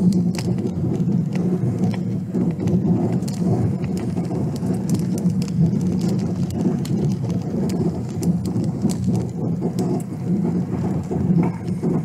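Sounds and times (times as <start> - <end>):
gravel ticks: 0.0 - 12.0
tyre and road rumble: 0.0 - 12.0.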